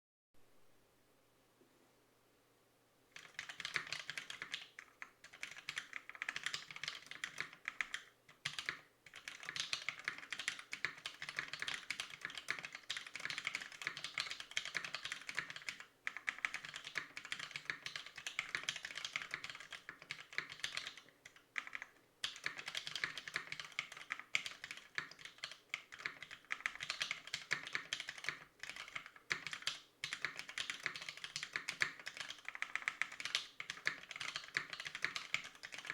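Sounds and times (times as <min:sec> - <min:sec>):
mechanical keyboard typing: 0:03.2 - 0:35.9.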